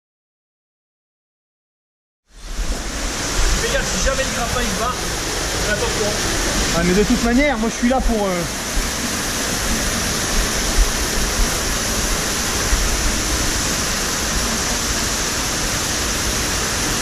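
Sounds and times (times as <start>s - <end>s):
waterfall rushing: 2.4s - 17.0s.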